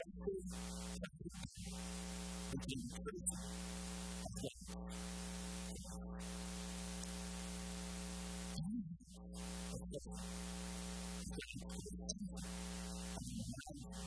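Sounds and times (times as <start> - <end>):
sound system hiss: 0.5 - 2.7, 3.3 - 8.6, 9.3 - 14.0
electrical mains hum: 1.6 - 8.6, 9.2 - 14.0.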